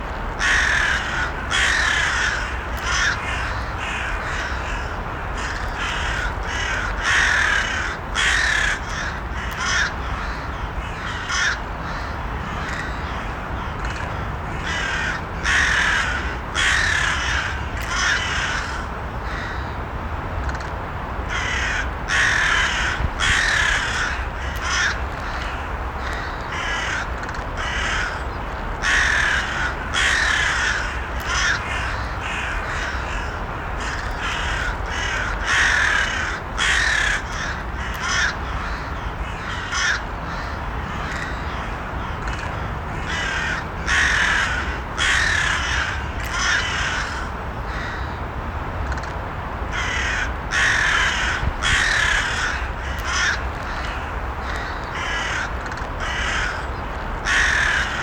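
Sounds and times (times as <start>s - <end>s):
low background noise: 0.0s - 58.0s
crows cawing: 0.4s - 19.8s, 21.3s - 48.2s, 49.7s - 58.0s.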